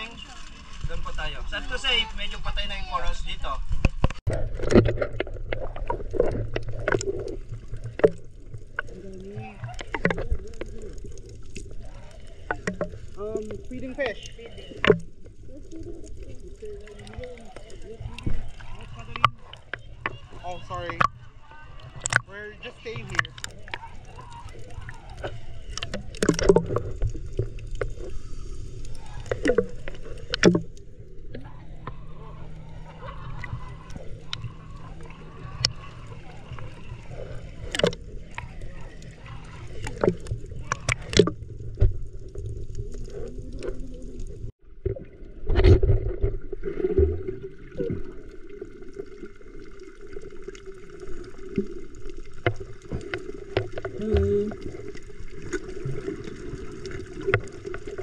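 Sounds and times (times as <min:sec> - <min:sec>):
kayak paddle splashing water: 0:00.0 - 0:58.0.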